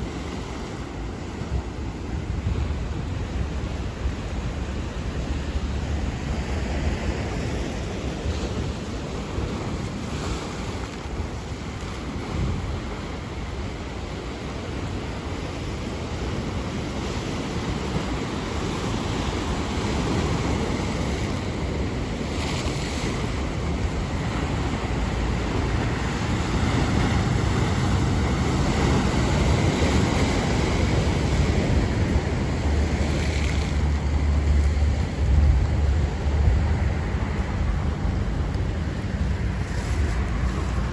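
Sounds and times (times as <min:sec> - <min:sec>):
surf waves breaking: 0:00.0 - 0:40.9
wind buffeting microphone: 0:00.0 - 0:40.9.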